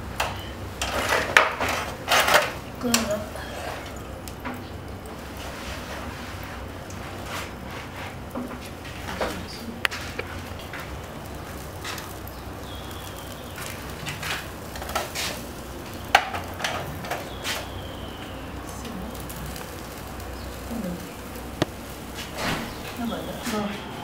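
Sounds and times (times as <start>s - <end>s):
sharp crackles and clicks: 0.0s - 23.7s
fish sizzling on charcoal grill: 0.0s - 24.0s.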